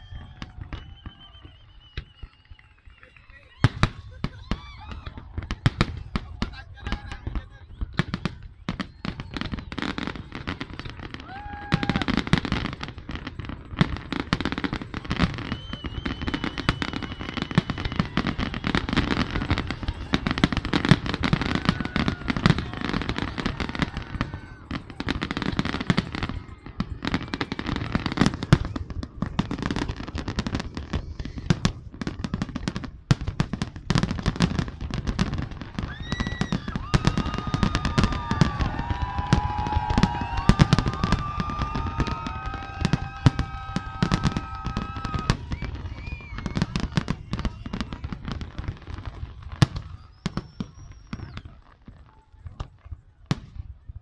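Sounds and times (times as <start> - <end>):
firework whistling: 0.0 - 51.6
fireworks bangs and crackling: 0.0 - 54.0.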